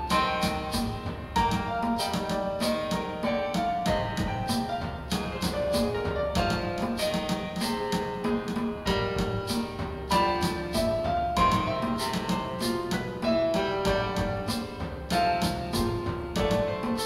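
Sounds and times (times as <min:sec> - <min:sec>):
piano-like chords: 0:00.0 - 0:17.0
steady beat: 0:00.0 - 0:17.0.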